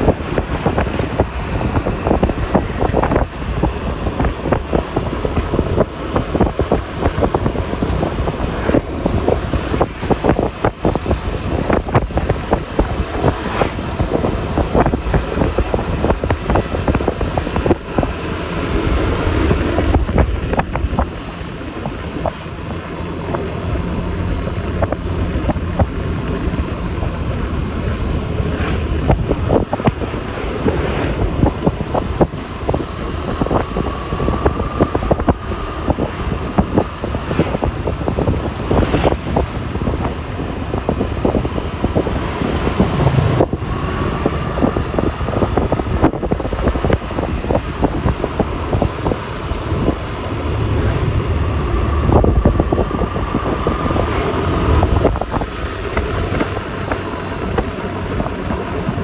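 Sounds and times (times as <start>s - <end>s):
scooter engine: 0.0s - 59.0s
wind buffeting microphone: 0.0s - 59.0s.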